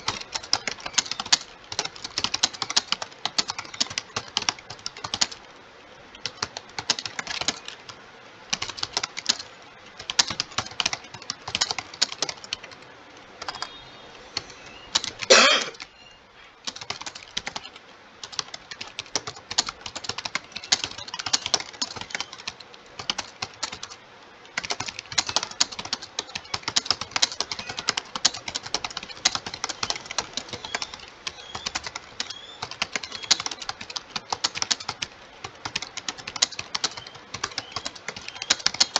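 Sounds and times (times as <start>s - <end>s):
computer keyboard typing: 0.0s - 5.5s, 6.2s - 13.8s, 14.4s - 15.9s, 16.6s - 38.9s.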